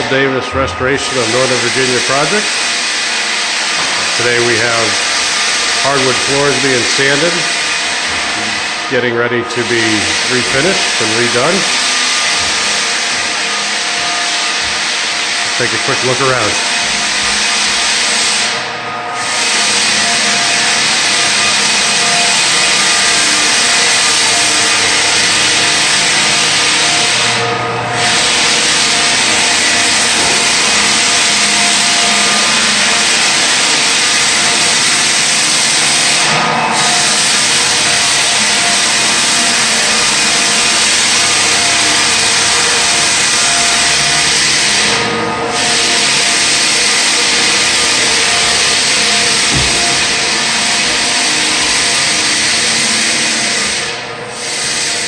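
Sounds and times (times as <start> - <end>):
floor sander grinding: 0.0 - 55.0.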